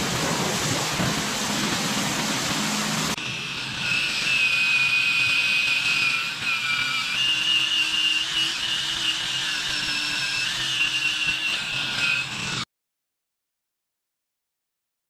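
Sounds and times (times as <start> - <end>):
power tool motor whine: 0.0 - 12.7.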